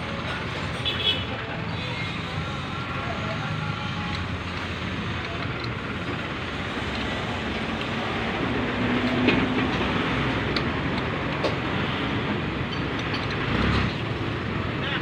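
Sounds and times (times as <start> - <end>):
vehicle traffic rumbling: 0.0 - 15.0.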